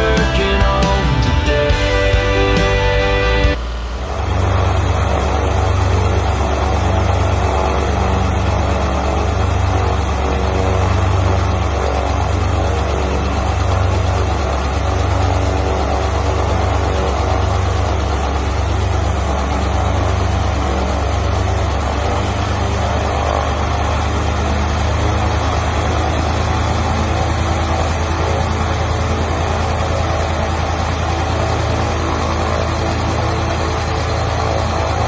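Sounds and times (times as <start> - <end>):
aircraft engine and propeller running: 0.0 - 35.0.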